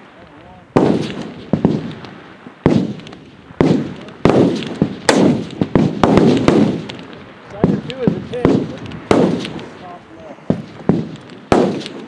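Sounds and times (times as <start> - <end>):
rifle shots with rolling echo: 0.0 - 12.0.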